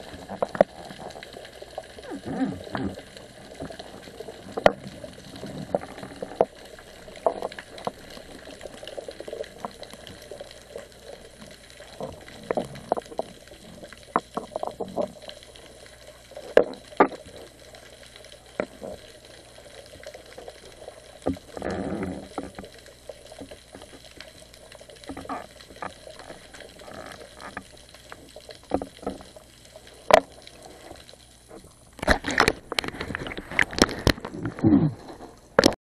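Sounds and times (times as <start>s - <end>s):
rush of water: 0.0s - 35.8s
splashes: 0.0s - 35.8s
water sloshing and bubbling: 0.0s - 35.8s.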